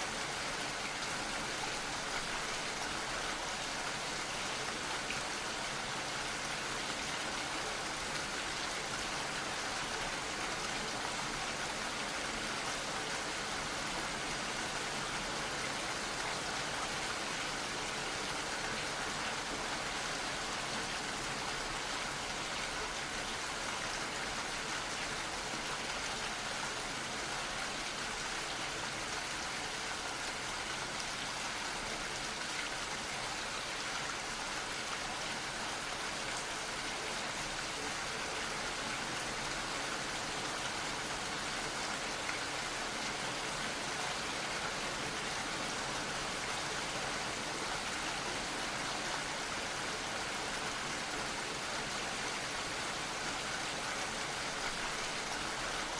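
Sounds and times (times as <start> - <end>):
gentle rain falling: 0.0 - 55.9.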